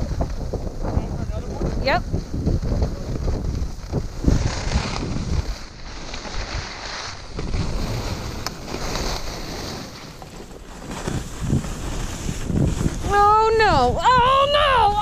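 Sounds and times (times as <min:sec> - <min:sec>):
skis scraping over snow: 0:00.0 - 0:13.7
wind on microphone: 0:00.0 - 0:15.0.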